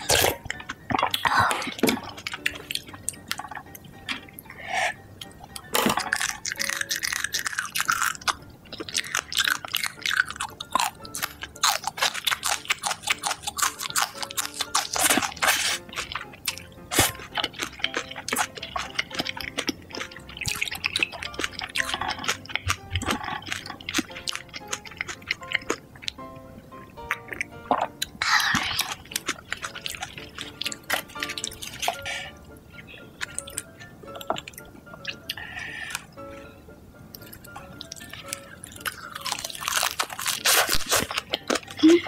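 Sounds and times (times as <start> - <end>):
person chewing and crunching: 0.0 - 26.4, 27.0 - 42.0
quiet background music: 0.0 - 42.0.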